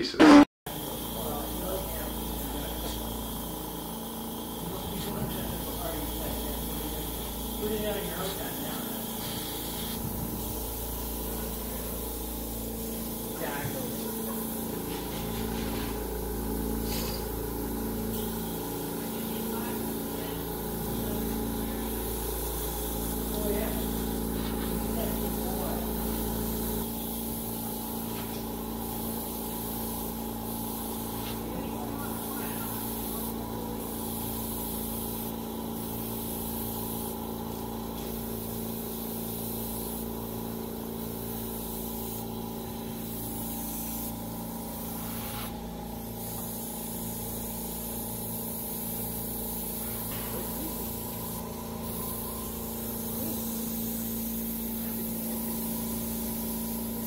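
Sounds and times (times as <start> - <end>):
compressor humming: 0.0 - 57.0
airbrush air hisses: 0.7 - 57.0.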